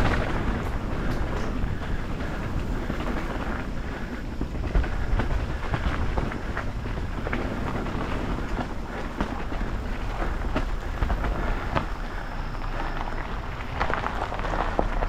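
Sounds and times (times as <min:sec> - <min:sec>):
tyres on dirt: 0:00.0 - 0:15.0
wind rumble on microphone: 0:00.0 - 0:15.0.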